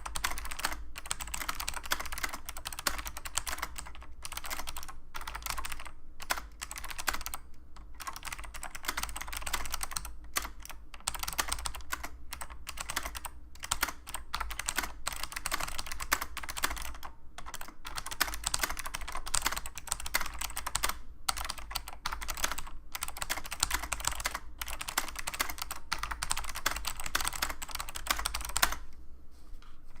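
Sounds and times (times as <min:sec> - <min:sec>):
fast typing key clicks: 0:00.0 - 0:28.8.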